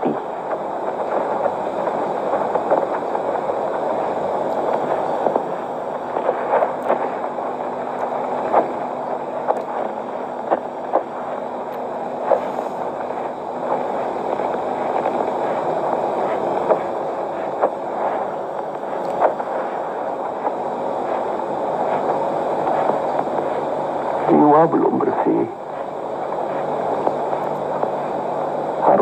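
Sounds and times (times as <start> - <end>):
film soundtrack hiss and hum: 0.0 - 29.0.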